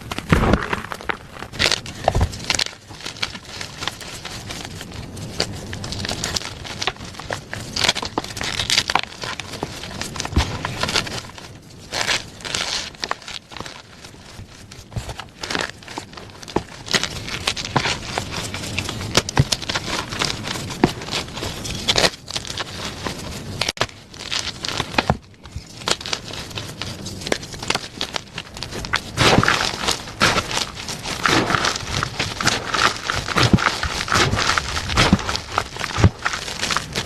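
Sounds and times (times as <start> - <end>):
chalk crushed by hand: 0.0 - 37.0.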